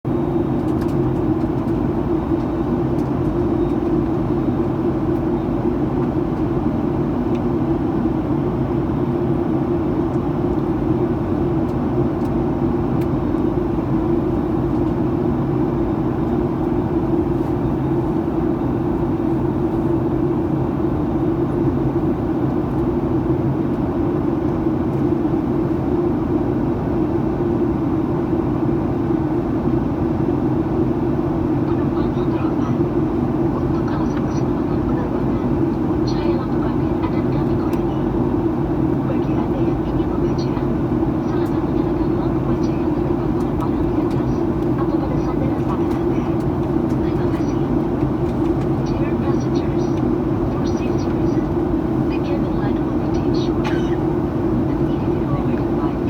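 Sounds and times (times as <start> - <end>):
airplane cabin drone: 0.1 - 56.0.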